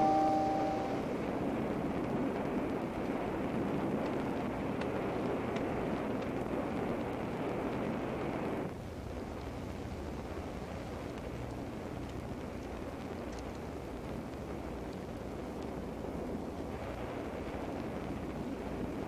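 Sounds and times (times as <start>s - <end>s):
steady rushing noise: 0.0s - 19.0s
faint film ticks: 1.9s - 19.0s.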